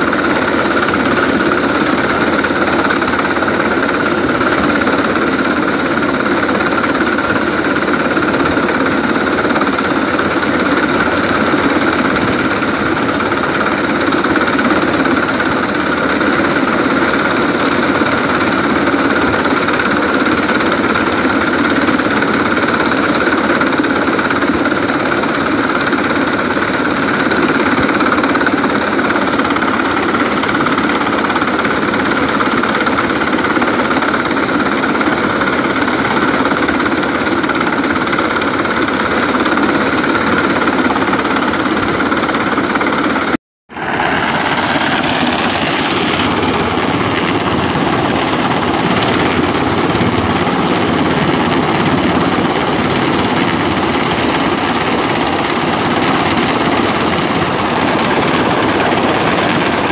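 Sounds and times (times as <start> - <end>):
helicopter rotor chop: 0.0 - 59.9
turbine engine noise: 0.0 - 59.9.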